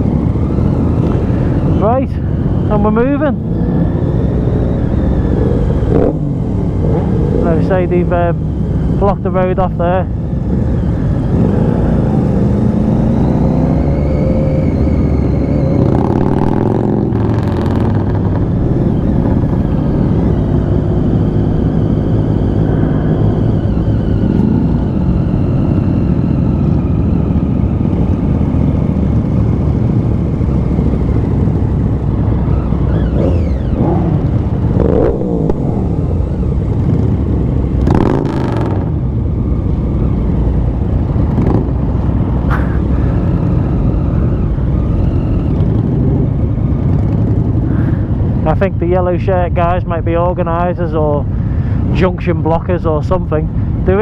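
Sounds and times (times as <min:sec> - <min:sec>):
motorcycle engine revving: 0:00.0 - 0:48.6.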